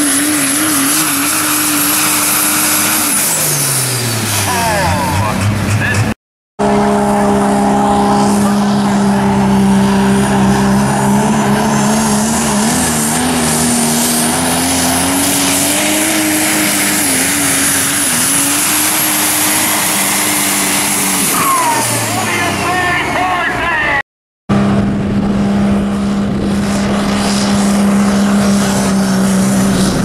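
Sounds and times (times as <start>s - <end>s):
diesel truck engine at full throttle: 0.0s - 30.0s
high turbo whine: 0.0s - 30.0s.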